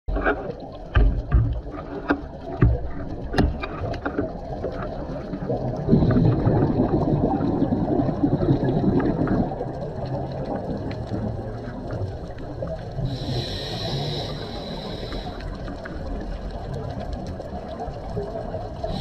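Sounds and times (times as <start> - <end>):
underwater bubbles gurgling: 0.1 - 19.0.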